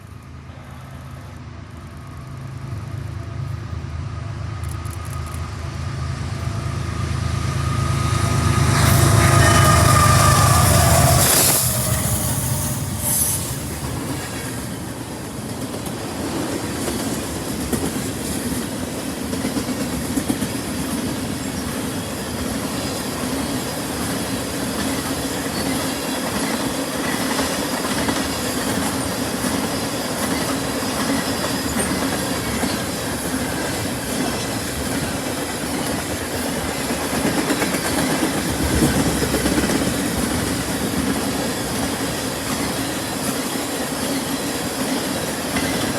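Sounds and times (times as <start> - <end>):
freight train cars rolling: 0.0 - 45.9.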